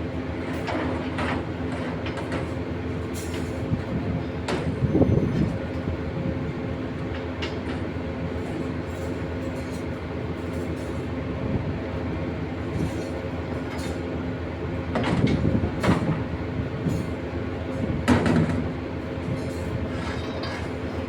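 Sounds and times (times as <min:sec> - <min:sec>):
heavy machinery humming: 0:00.0 - 0:21.0.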